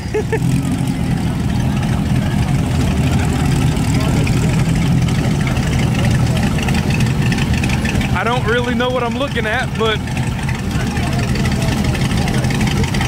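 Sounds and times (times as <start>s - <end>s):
crowd chatter: 0.0s - 13.0s
truck engine idling: 0.0s - 13.0s.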